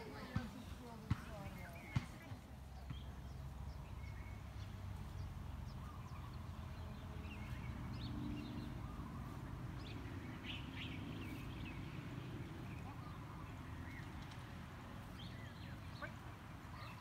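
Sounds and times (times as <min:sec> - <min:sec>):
birds chirping: 0:00.0 - 0:17.0
low outdoor rumble: 0:00.0 - 0:17.0.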